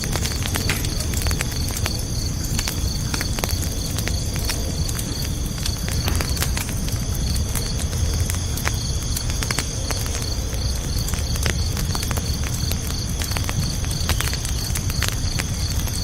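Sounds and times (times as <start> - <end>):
campfire crackling and popping: 0.0 - 16.0
crickets chirping: 0.0 - 16.0.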